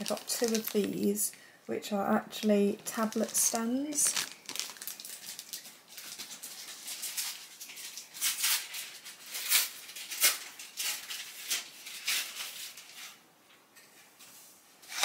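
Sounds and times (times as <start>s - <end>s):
plastic bag crinkling: 0.0s - 1.4s, 2.2s - 13.2s.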